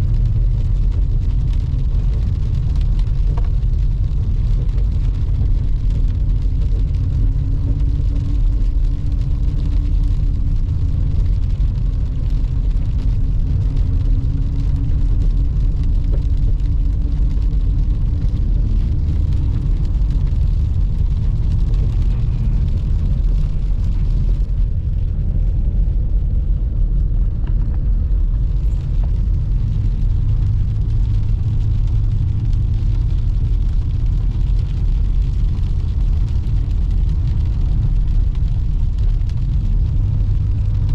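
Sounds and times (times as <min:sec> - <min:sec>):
car engine cruising: 0:00.0 - 0:40.9
road and tyre rumble: 0:00.0 - 0:40.9.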